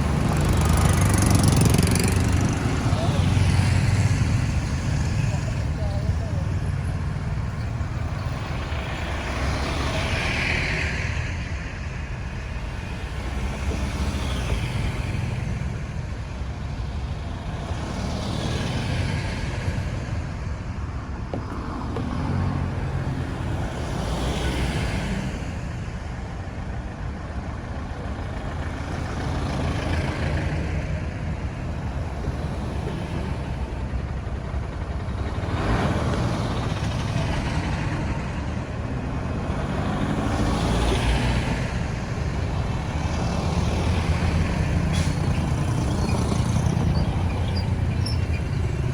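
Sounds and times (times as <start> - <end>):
vehicles passing: 0.0 - 48.9.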